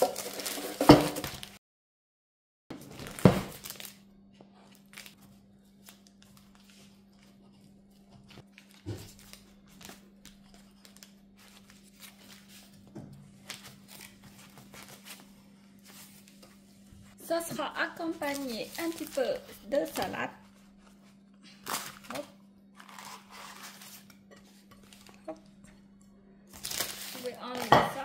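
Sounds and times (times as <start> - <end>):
baking paper crinkling: 0.0 - 1.6, 2.8 - 25.5, 26.5 - 28.0.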